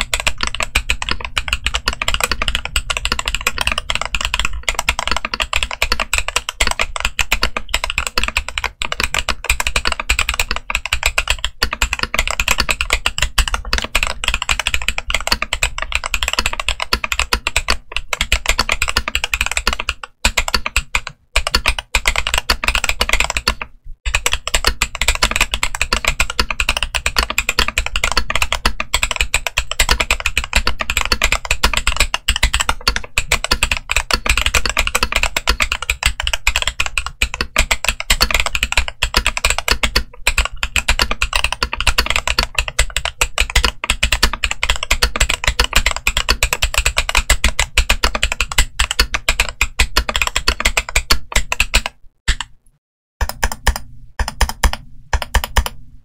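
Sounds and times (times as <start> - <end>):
typing on mechanical keyboard: 0.0 - 52.6, 53.2 - 55.8.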